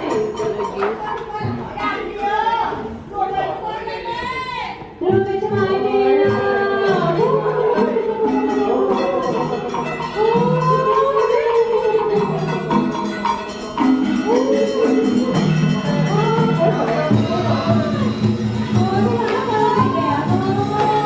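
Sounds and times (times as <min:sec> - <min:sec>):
plucked and percussion instruments: 0:00.0 - 0:03.1, 0:04.8 - 0:21.0.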